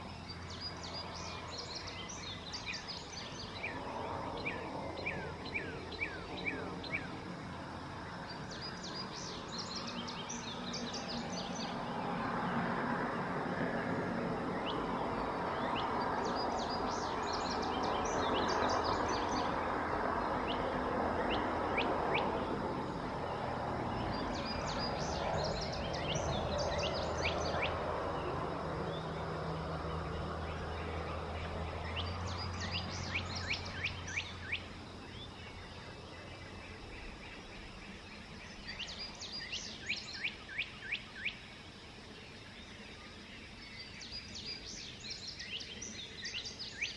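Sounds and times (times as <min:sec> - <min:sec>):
songbird chirping song: 0:00.0 - 0:46.9.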